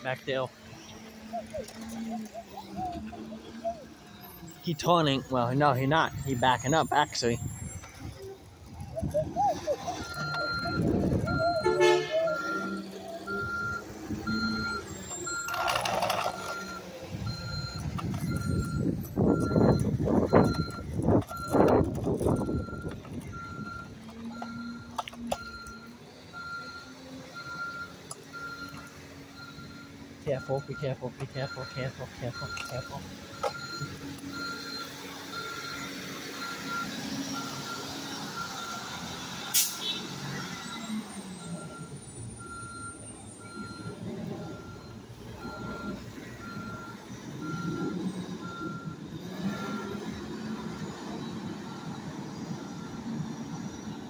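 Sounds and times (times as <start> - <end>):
truck engine rumble: 0.0 - 54.0
reversing alarm beeping: 0.1 - 54.0.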